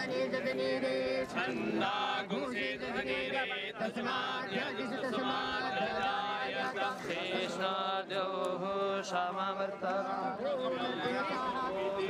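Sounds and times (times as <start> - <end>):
men chanting together: 0.3 - 12.0.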